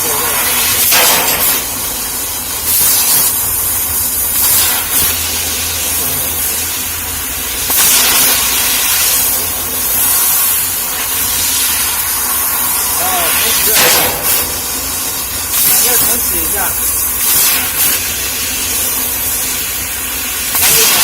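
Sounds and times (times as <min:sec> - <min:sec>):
low machine hum: 0:00.0 - 0:20.9
laser cutter air hiss: 0:00.0 - 0:21.0.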